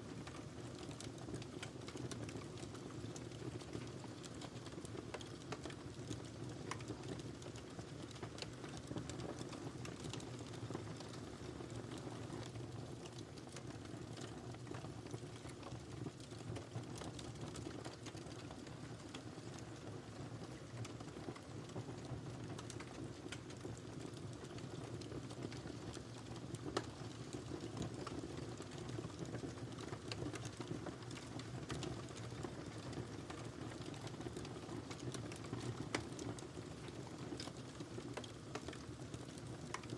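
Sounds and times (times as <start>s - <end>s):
wood crackling and popping: 0.0s - 39.9s
fire burning: 0.1s - 39.9s.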